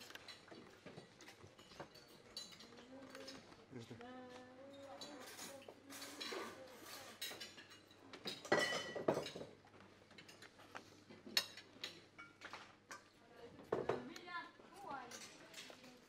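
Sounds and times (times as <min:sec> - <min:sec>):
cutlery clinking on plates: 0:00.0 - 0:03.5, 0:04.7 - 0:14.1.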